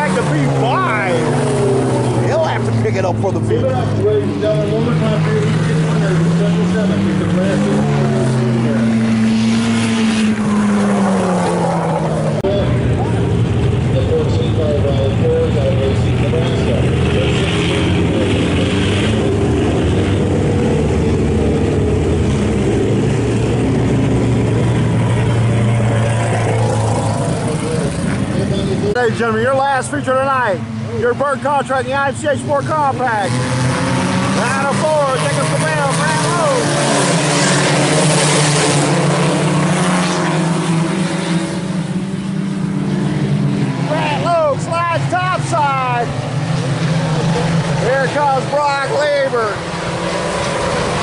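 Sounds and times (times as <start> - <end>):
race car engines running: 0.0 - 51.0.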